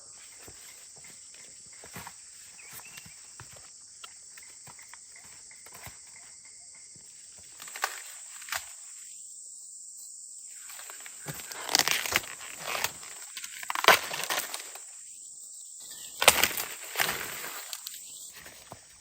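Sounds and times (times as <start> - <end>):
rustling plants: 0.0 - 9.0, 10.6 - 15.0, 15.9 - 19.0
high insect drone: 0.0 - 19.0.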